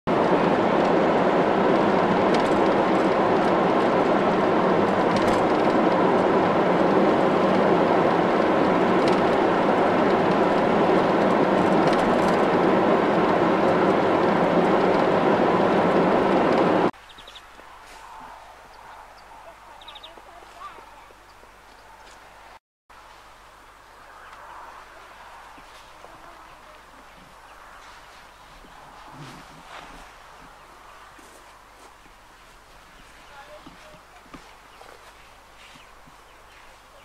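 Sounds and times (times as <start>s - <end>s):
tyre and wind noise in car: 0.1s - 19.2s, 20.3s - 37.0s.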